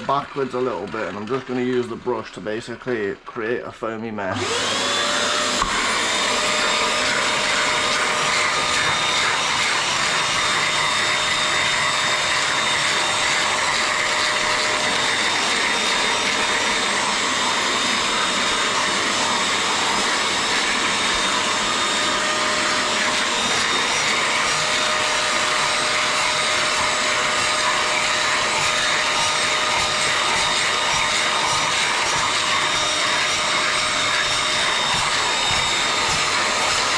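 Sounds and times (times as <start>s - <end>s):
cleaning machine motor whine: 4.3s - 36.9s.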